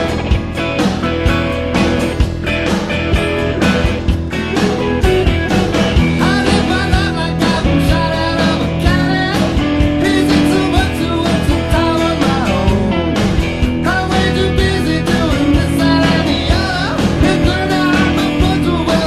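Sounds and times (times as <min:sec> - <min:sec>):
rock song: 0:00.0 - 0:19.0.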